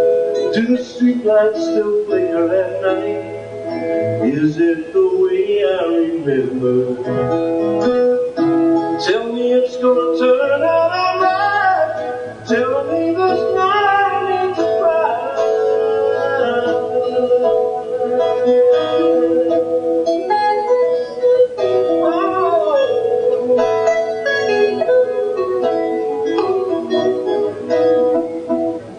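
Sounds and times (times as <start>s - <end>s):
guitar: 0.0s - 28.9s
sliding melody line: 0.0s - 28.9s.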